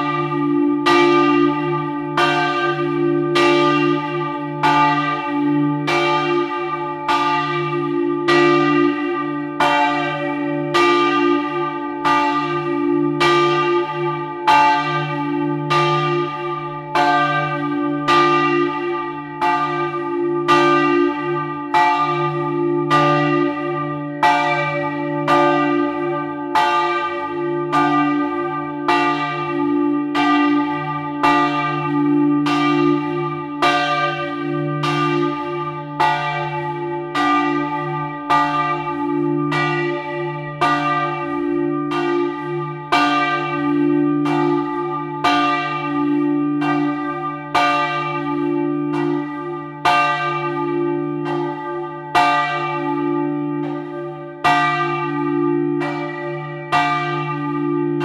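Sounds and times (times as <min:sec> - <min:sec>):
church bell ringing: 0:00.0 - 0:58.0.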